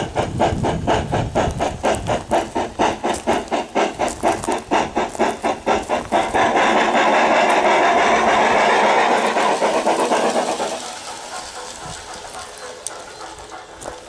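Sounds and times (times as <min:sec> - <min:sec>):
steady steam hiss: 0:00.0 - 0:14.0
steam exhaust chuffs through loudspeaker: 0:00.0 - 0:14.0.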